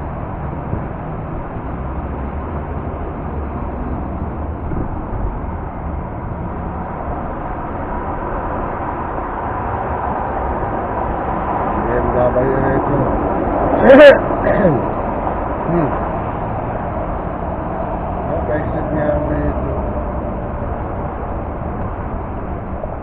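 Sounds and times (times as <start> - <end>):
tyre and engine rumble inside car: 0.0 - 23.0.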